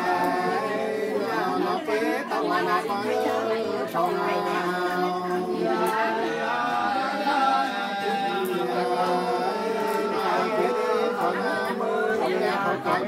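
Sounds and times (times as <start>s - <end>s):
unaccompanied folk singing: 0.0s - 13.0s.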